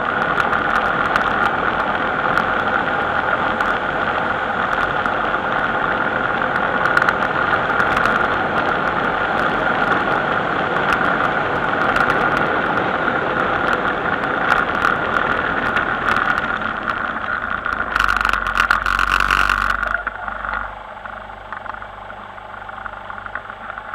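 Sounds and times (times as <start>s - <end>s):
vehicle engine: 0.0s - 23.9s.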